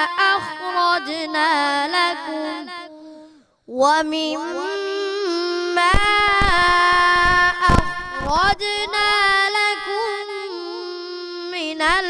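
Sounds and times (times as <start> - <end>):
boy chanting into microphone: 0.0 - 12.0.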